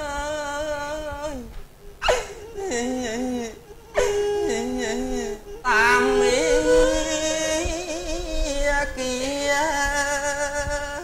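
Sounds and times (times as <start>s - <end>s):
person singing wavering held notes: 0.0s - 11.0s.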